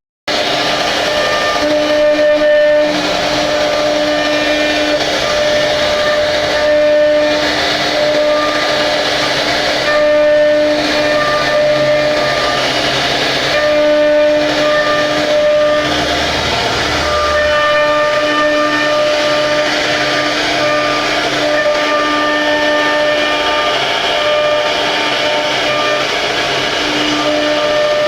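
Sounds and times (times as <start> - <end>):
router spindle whining: 0.3 - 28.0.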